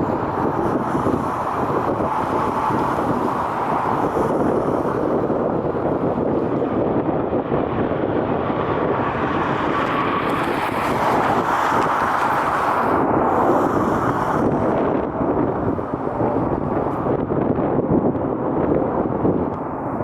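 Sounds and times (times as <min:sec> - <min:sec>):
jet engine noise: 0:00.0 - 0:20.0
wind buffeting microphone: 0:00.0 - 0:20.0.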